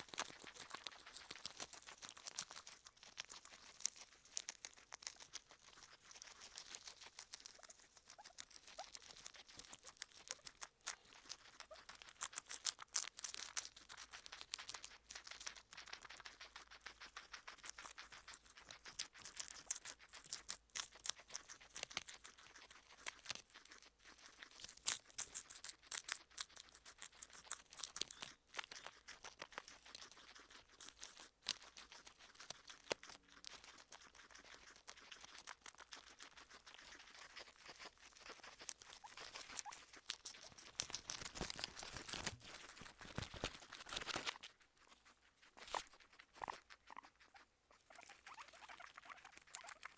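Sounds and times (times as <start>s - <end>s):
guinea pigs chewing lettuce: 0.0s - 49.9s.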